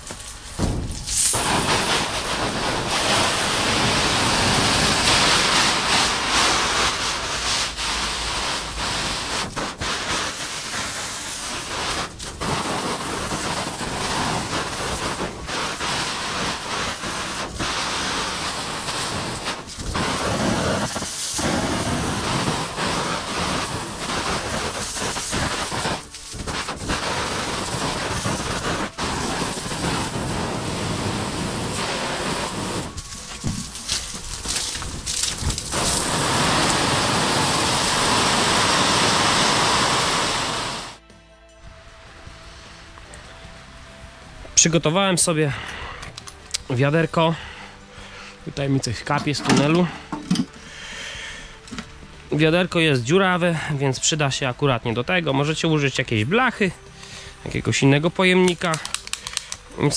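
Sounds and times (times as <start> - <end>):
hose spray hissing on plastic film: 0.0 - 41.0, 44.7 - 59.9.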